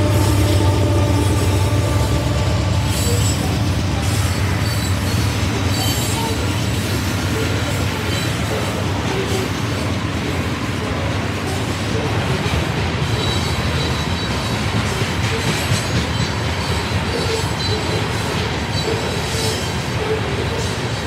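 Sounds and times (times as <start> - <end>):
freight cars rumbling and rattling: 0.0 - 21.0.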